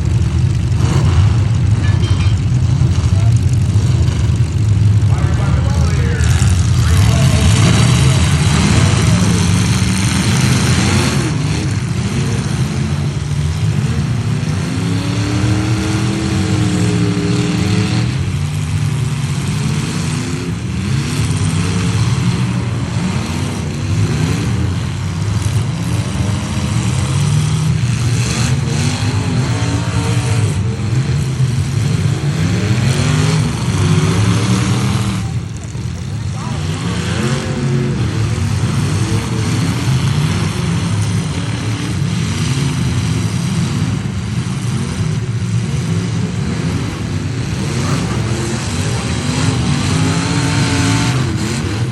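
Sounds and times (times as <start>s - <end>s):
truck engines revving: 0.0s - 51.9s.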